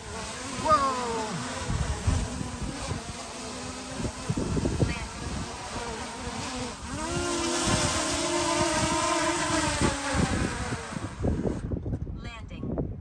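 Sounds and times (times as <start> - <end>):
drone propellers buzzing: 0.0 - 11.7
wind buffeting microphone: 0.0 - 13.0.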